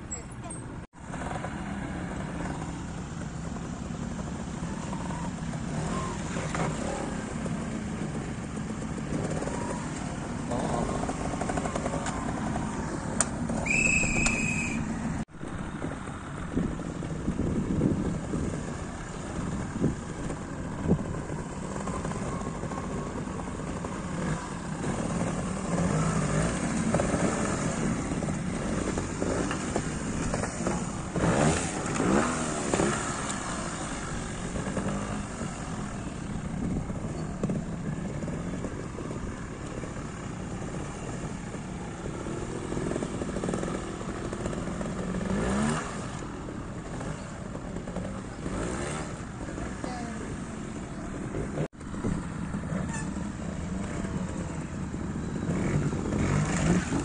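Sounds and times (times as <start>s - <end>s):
motorcycle engines idling: 0.0s - 57.0s
throttle blips and revving: 1.1s - 57.0s.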